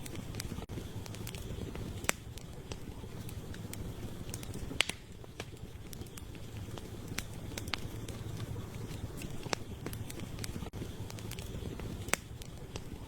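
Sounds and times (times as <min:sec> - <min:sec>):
campfire crackling and popping: 0:00.0 - 0:13.0
steady low rumble: 0:00.0 - 0:13.0.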